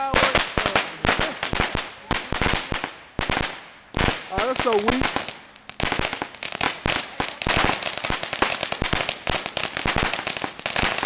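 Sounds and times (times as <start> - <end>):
firecrackers popping: 0.0 - 11.0.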